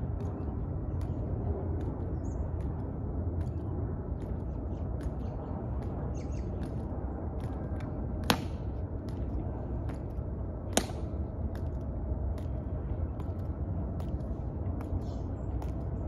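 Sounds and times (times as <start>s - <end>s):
low steady rumble: 0.0s - 16.0s
shoes clicking on marble: 0.0s - 16.0s.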